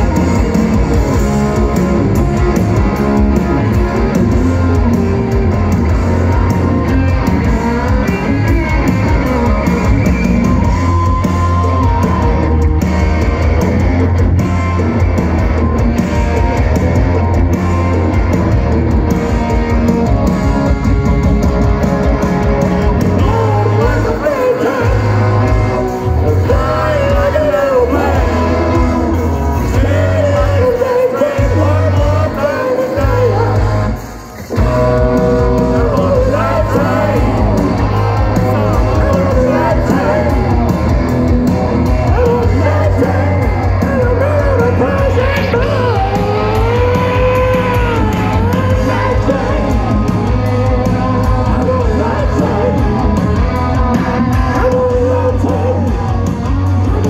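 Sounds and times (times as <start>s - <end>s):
distorted electric guitar lead: 0.0s - 57.0s
live rock band playing: 0.0s - 57.0s.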